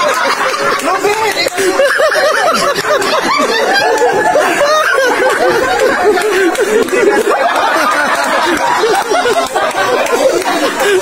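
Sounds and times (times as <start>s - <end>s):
people laughing and chattering: 0.0s - 11.0s.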